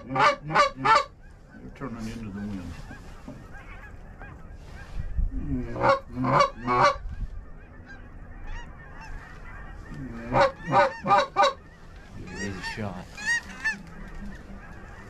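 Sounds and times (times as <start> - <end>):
goose honks: 0.0 - 7.0, 7.6 - 15.0.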